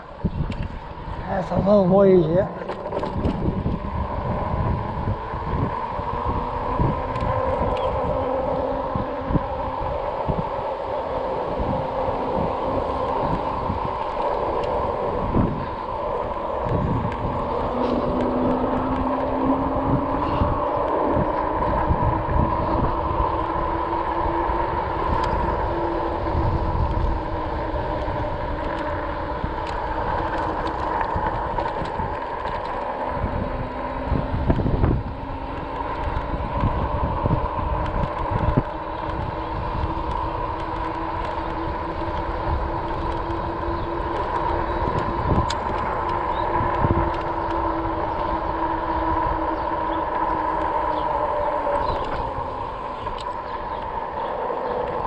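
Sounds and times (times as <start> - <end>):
electric motor whine: 0.0 - 55.0
wind rumble on microphone: 0.0 - 55.0.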